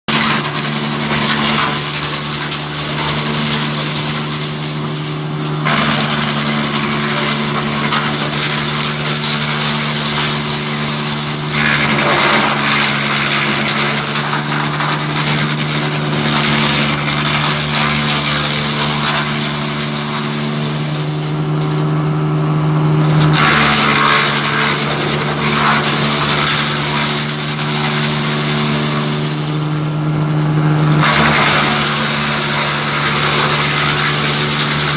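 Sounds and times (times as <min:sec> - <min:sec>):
wood chipper engine drone: 0:00.1 - 0:34.9
wood shredding noise: 0:00.1 - 0:34.9.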